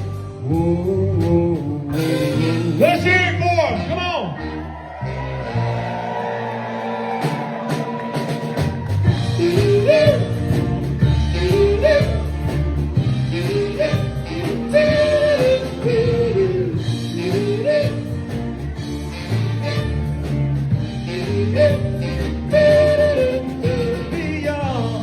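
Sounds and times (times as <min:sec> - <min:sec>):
live band instrumental: 0:00.0 - 0:25.0.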